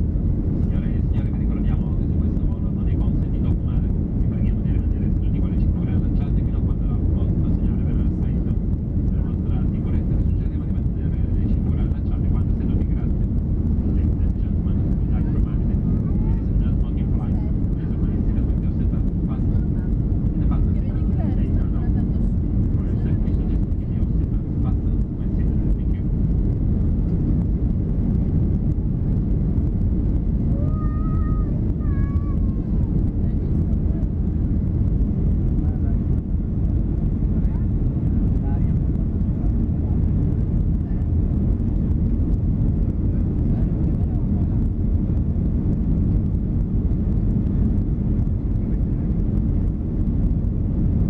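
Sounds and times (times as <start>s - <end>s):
jet engines rumbling: 0.0s - 51.0s
rushing air in cabin: 0.0s - 51.0s.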